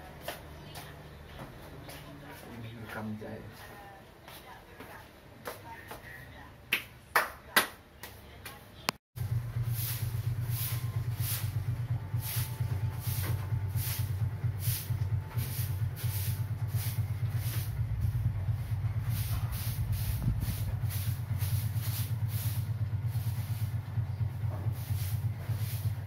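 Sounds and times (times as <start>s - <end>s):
ceiling fan running: 0.0s - 26.0s.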